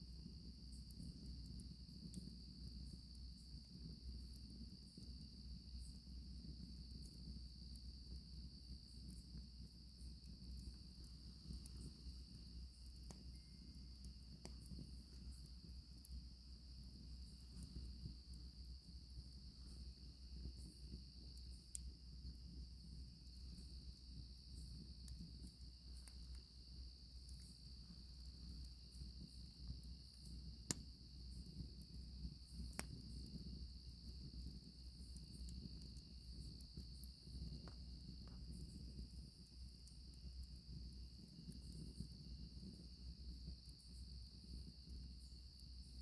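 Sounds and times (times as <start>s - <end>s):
crickets chirping: 0.0s - 46.0s
campfire crackling pops: 0.1s - 46.0s.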